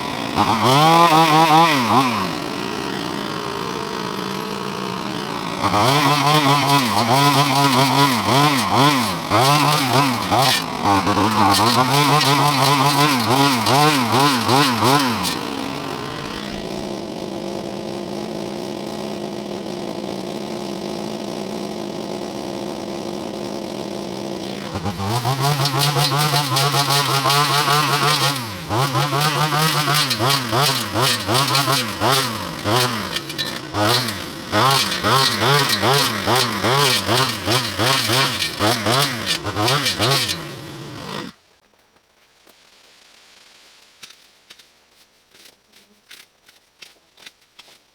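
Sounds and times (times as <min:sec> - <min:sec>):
chainsaw revving and cutting: 0:00.0 - 0:41.4.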